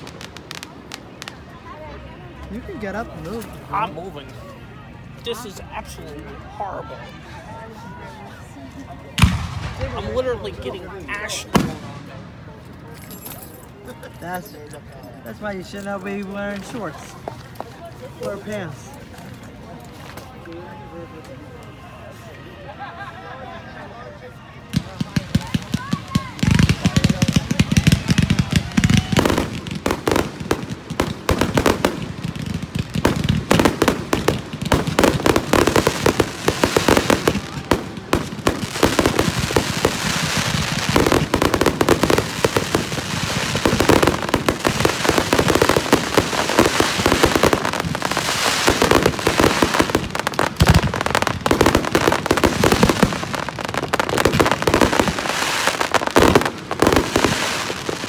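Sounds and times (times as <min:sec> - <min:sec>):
fireworks bangs and crackles: 0:00.0 - 0:20.6, 0:24.6 - 0:58.0.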